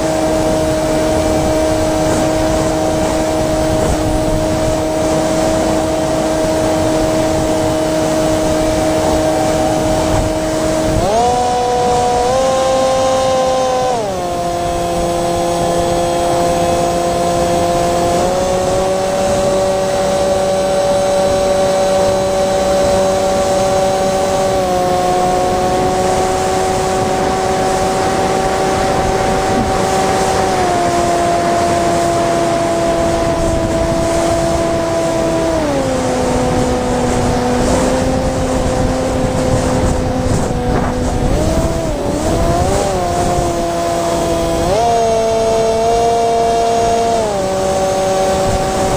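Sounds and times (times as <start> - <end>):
electric motor and propeller whine: 0.0 - 48.9
rush of wind: 0.0 - 48.9.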